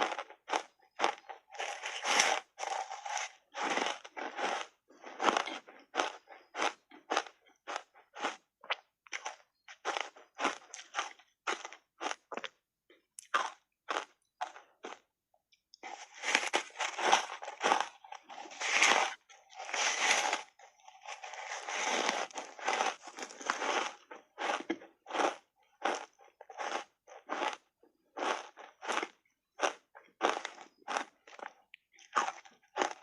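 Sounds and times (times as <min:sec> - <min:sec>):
crunching ice being chewed: 0:00.0 - 0:33.0.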